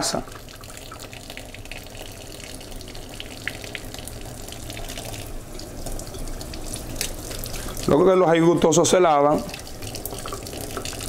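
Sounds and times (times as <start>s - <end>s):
kitchen tap running: 0.0s - 11.0s.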